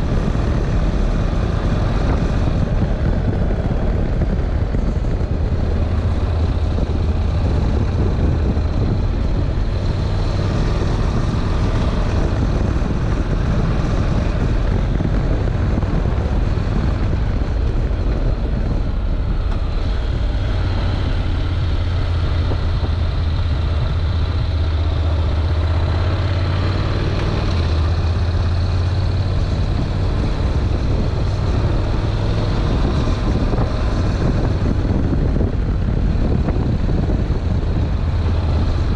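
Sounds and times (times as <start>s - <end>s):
motorcycle engine running: 0.0s - 38.9s
wind on microphone: 0.0s - 38.9s.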